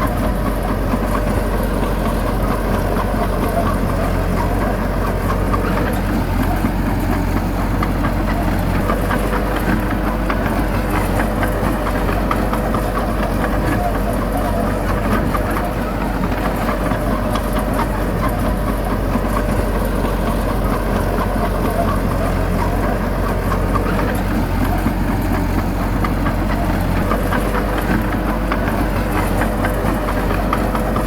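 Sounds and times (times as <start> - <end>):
diesel engine running under load: 0.0 - 31.0.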